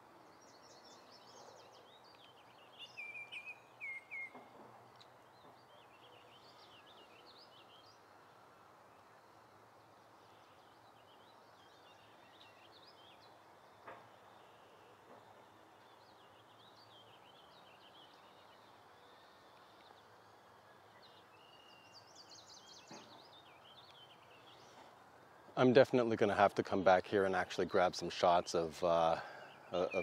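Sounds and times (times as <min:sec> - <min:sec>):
soft steady hiss: 0:00.0 - 0:30.0
songbirds chirping: 0:00.0 - 0:30.0.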